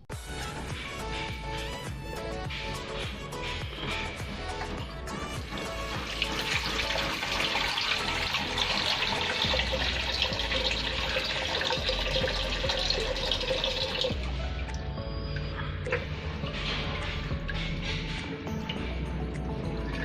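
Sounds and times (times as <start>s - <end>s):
water running from a faucet: 0.6s - 18.9s.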